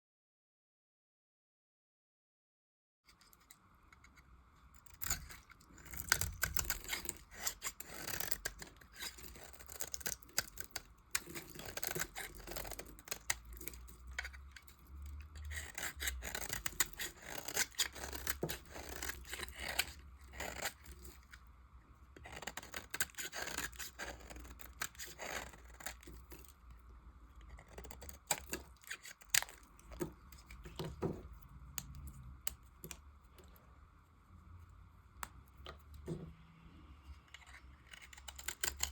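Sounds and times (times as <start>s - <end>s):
soap being cut and scraped: 3.1s - 33.7s, 37.1s - 38.9s.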